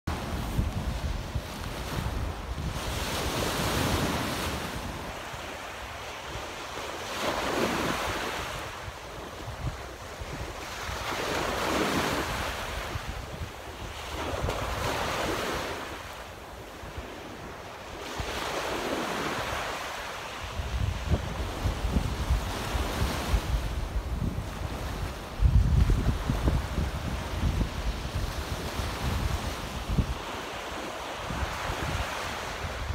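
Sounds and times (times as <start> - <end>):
wind rumble on microphone: 0.1 - 19.8, 20.4 - 32.9
waves breaking on beach: 0.1 - 32.9.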